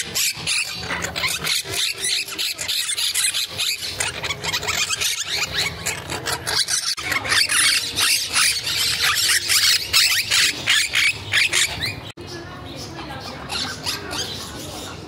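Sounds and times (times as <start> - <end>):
parrots squealing and chirping: 0.0 - 12.2, 12.8 - 15.0.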